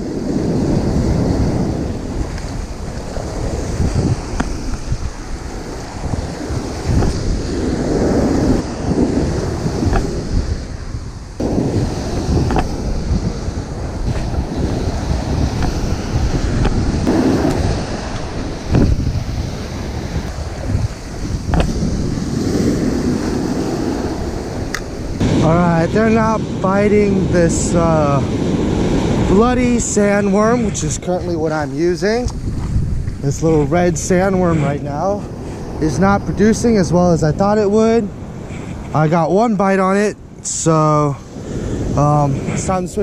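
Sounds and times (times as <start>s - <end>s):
ocean surf: 0.0s - 43.0s
wind buffeting microphone: 0.0s - 43.0s.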